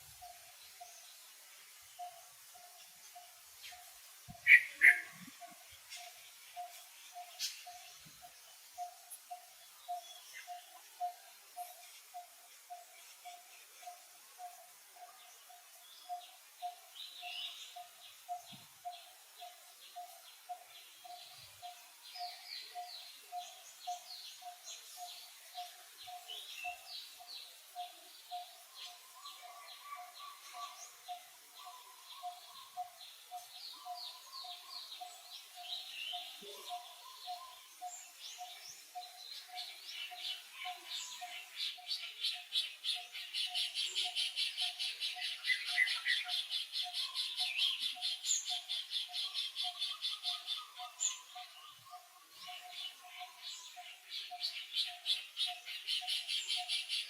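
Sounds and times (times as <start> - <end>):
birds chirping: 2.0 - 57.0.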